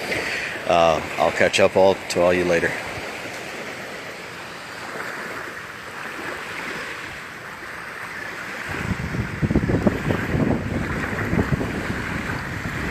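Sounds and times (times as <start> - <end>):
gentle surf on sandy beach: 0.0 - 12.9.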